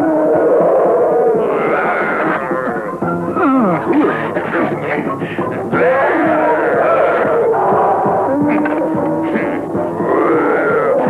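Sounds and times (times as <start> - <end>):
dense background music: 0.4 - 11.0.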